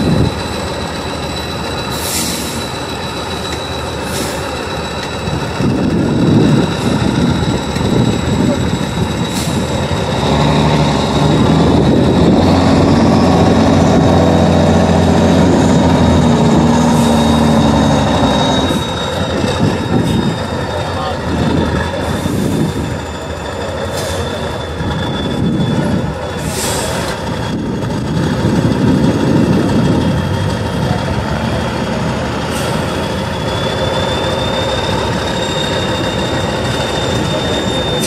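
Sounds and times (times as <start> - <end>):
diesel truck engine working hard: 0.0 - 38.0.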